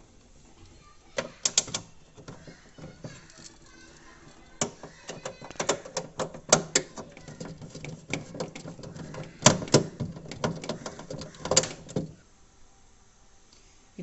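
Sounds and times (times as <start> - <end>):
fridge parts clicking and knocking: 0.6 - 12.2.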